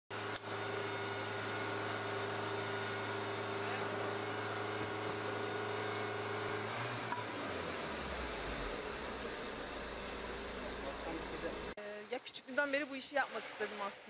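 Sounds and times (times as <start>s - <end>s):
steady machine hum: 0.1s - 11.8s.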